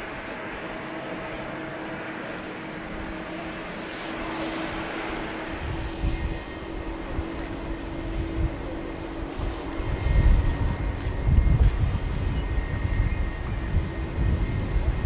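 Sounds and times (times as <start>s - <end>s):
jet engines running: 0.0s - 15.0s
low rumbling gusts: 0.0s - 15.0s.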